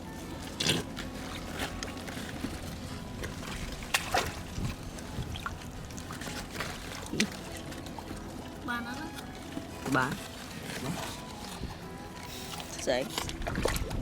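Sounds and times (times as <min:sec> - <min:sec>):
shallow water sloshing and splashing: 0:00.1 - 0:14.0.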